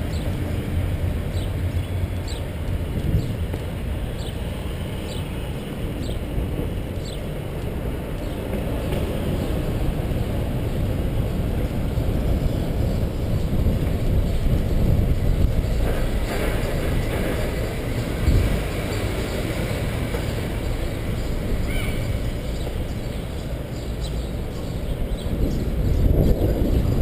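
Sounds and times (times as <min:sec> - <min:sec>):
bicycle rolling on pavement: 0:00.0 - 0:27.0
wind buffeting microphone: 0:00.0 - 0:27.0.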